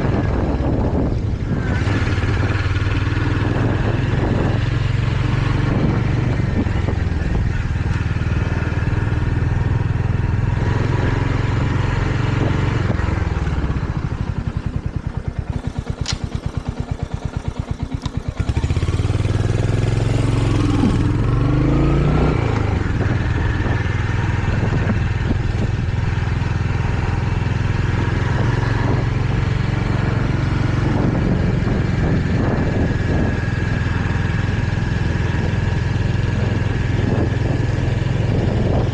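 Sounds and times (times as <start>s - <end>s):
single-cylinder motorcycle engine: 0.0s - 38.9s.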